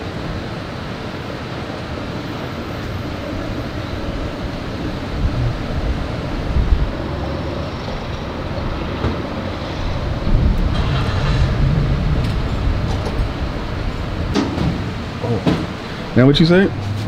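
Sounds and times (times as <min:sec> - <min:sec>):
low hum: 0:00.0 - 0:17.0
low rumble of traffic: 0:00.0 - 0:17.0.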